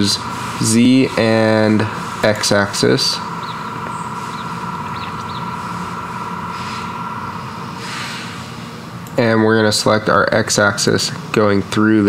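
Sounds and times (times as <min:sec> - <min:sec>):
high whine: 0:00.0 - 0:12.0
mechanical hum: 0:00.0 - 0:12.0.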